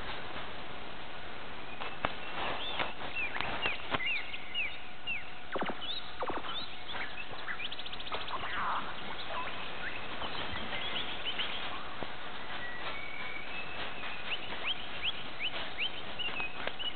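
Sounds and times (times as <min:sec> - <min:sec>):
steady outdoor hiss: 0:00.0 - 0:16.9
birds chirping: 0:01.5 - 0:16.9
rapid bird trill: 0:02.6 - 0:16.9.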